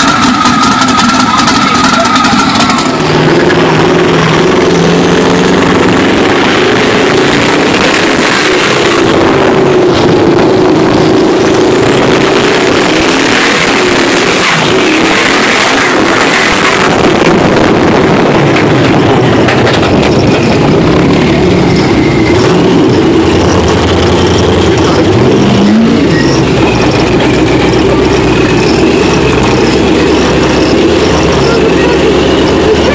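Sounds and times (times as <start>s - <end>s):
engine drone: 0.0s - 32.9s
loud rushing noise: 0.0s - 32.9s.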